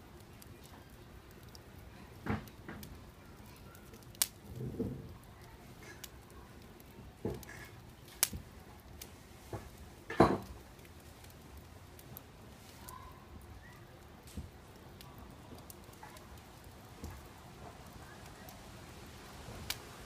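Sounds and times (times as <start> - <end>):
campfire crackling and popping: 0.0 - 20.0
low steady hiss: 0.0 - 20.0.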